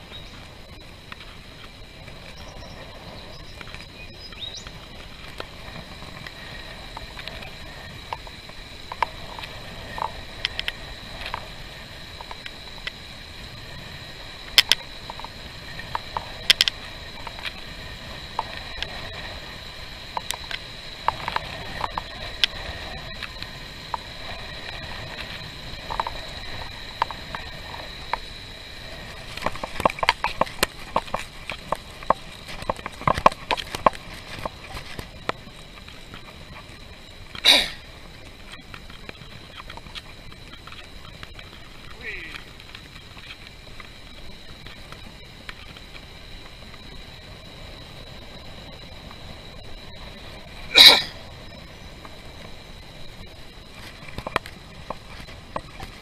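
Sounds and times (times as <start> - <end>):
bicycle clicks and rattles: 0.0 - 56.0
road rumble: 0.0 - 56.0
thin high whine: 0.0 - 56.0.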